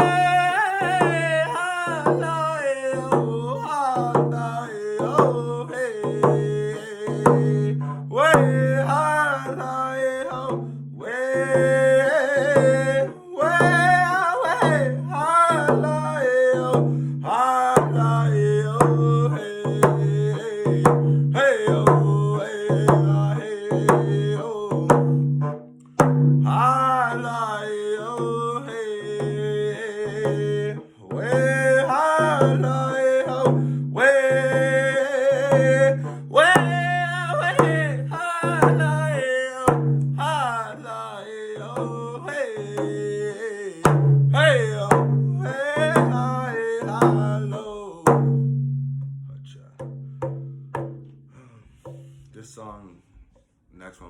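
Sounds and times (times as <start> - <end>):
young man singing: 0.0 - 25.3, 26.4 - 48.4
steady drumbeat: 0.0 - 40.9, 41.6 - 49.2, 49.8 - 52.2.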